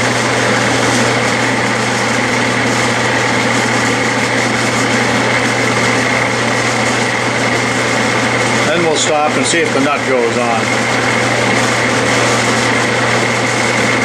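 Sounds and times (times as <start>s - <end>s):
metal lathe motor and gear hum: 0.0s - 14.0s.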